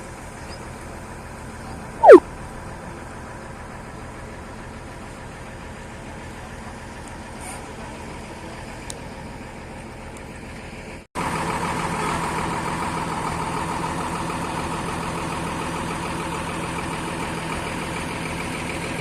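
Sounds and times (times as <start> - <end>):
heavy diesel engine running: 2.9 - 19.0.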